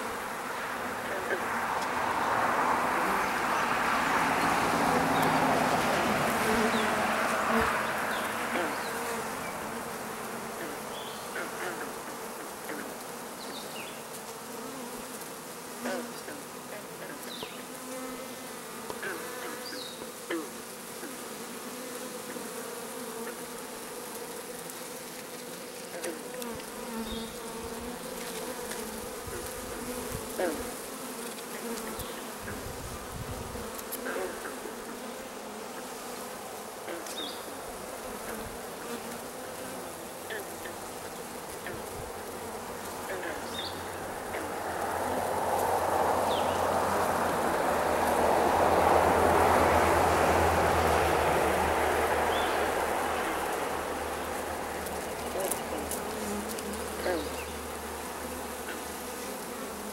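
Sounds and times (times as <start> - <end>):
bee swarm buzzing: 0.0 - 59.9.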